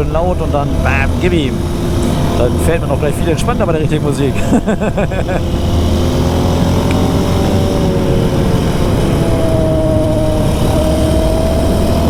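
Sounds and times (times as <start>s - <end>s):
quad bike engine running: 0.0s - 12.0s
tyres humming on tarmac: 0.0s - 12.0s.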